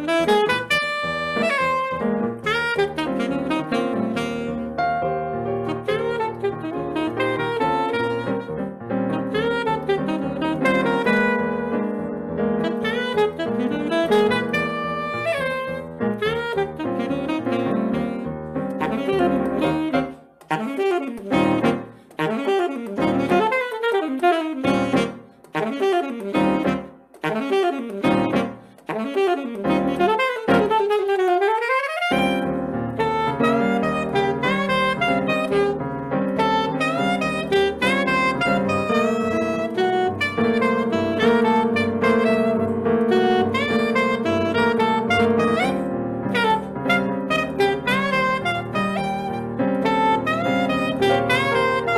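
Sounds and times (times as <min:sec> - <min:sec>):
piano accompaniment: 0:00.0 - 0:51.9
saxophone playing: 0:00.0 - 0:51.9.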